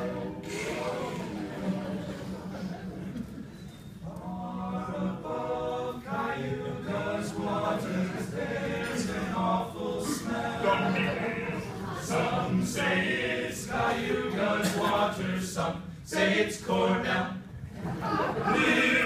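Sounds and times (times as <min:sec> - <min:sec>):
male a cappella group singing: 0:00.0 - 0:01.9, 0:04.1 - 0:17.6, 0:18.4 - 0:19.0.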